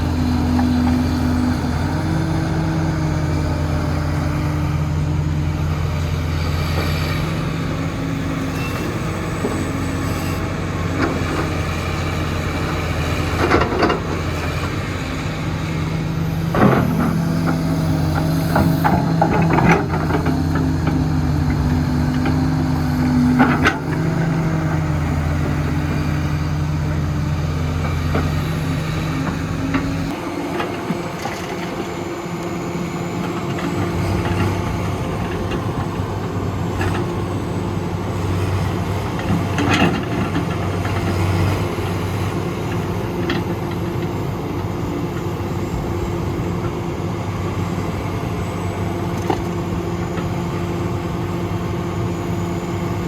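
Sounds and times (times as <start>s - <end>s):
diesel machine engine running: 0.0s - 53.0s.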